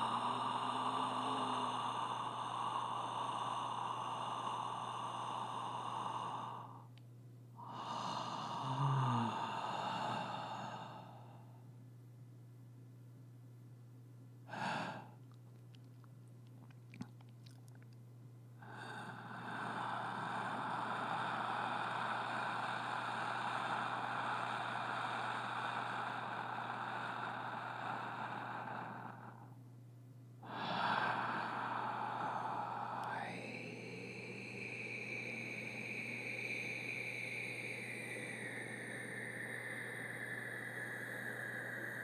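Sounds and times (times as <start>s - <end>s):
person breathing deeply: 0.0s - 6.9s, 7.6s - 11.7s, 14.5s - 15.9s, 18.6s - 29.6s, 30.4s - 42.0s
steady low hum: 0.0s - 42.0s.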